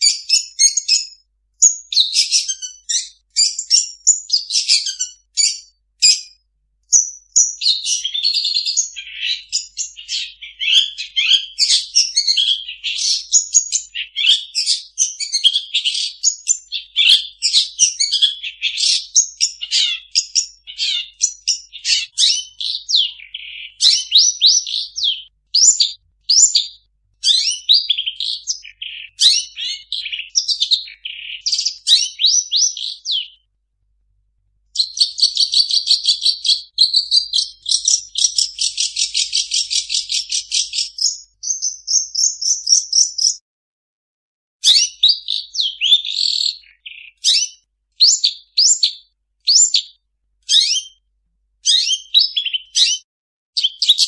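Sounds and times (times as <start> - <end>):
bird singing varied chirps: 0.0 - 33.5, 34.7 - 43.4, 44.6 - 51.0, 51.6 - 54.0.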